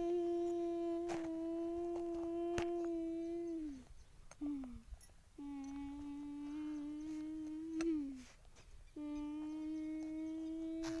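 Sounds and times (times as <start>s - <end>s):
person humming: 0.0s - 11.0s.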